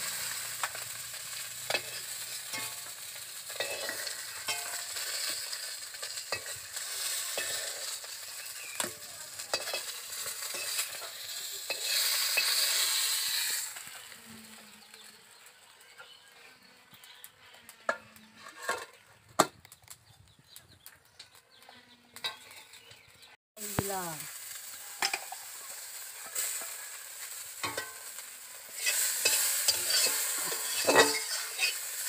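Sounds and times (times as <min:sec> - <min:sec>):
fish sizzling in hot oil: 0:00.0 - 0:18.8, 0:23.6 - 0:32.0
metal spatula scraping a wok: 0:00.0 - 0:19.2, 0:24.4 - 0:32.0.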